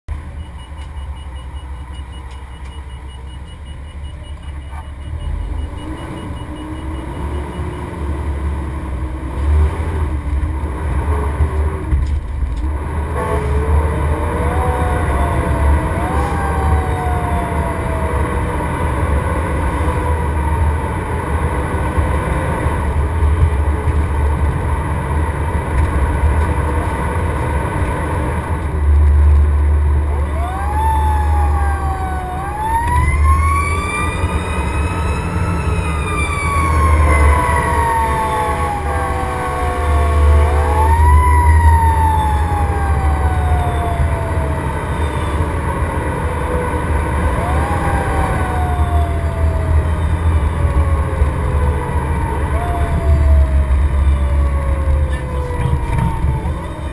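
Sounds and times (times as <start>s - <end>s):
truck engine rumble: 0.0s - 56.9s
fire engine siren wailing: 4.6s - 10.2s, 12.6s - 56.9s.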